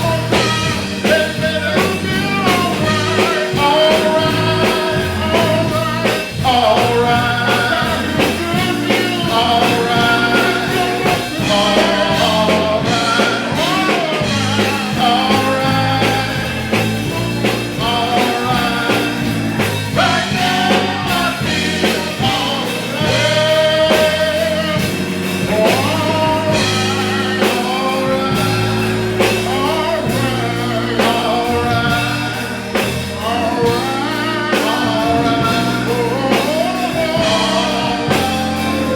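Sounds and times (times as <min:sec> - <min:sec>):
band playing: 0:00.0 - 0:38.9
church song singing: 0:00.0 - 0:38.9.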